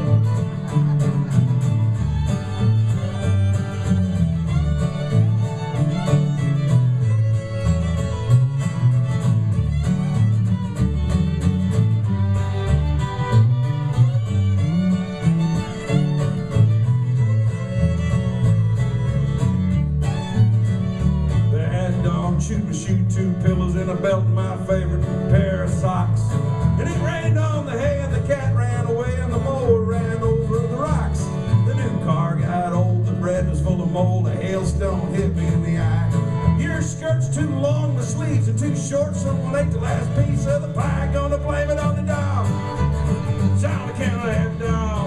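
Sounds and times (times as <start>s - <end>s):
acoustic guitars: 0.0s - 45.0s
fiddle: 0.0s - 45.0s
walking bass line: 0.0s - 45.0s.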